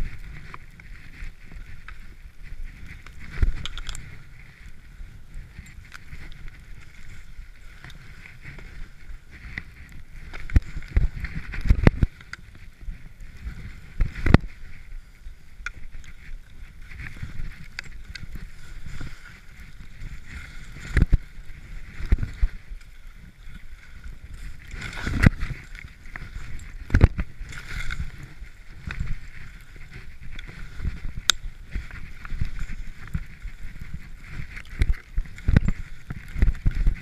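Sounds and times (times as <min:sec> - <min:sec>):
skis swishing through powder snow: 0:00.0 - 0:37.0
wind rumble on microphone: 0:00.0 - 0:37.0.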